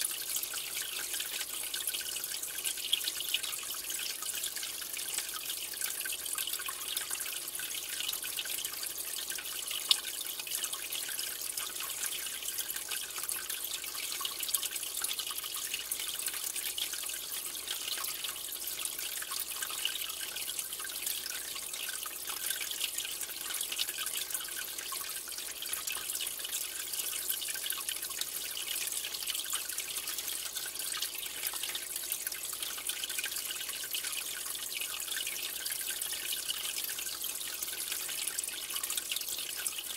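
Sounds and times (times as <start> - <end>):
tiny water drips: 0.0 - 39.9
water trickling: 0.0 - 39.9.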